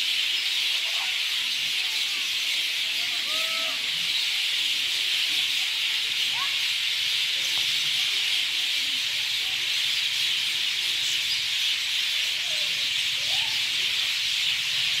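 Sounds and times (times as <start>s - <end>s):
many birds chirping: 0.0s - 15.0s.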